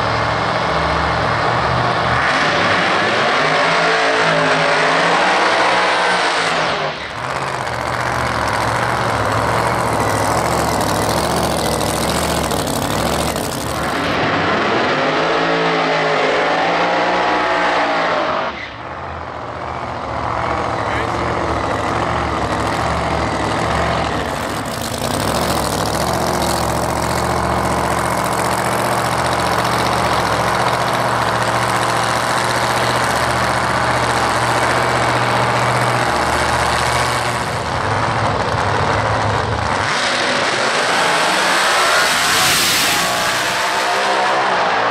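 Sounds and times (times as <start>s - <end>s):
supercharged engine idling and revving: 0.0s - 44.9s.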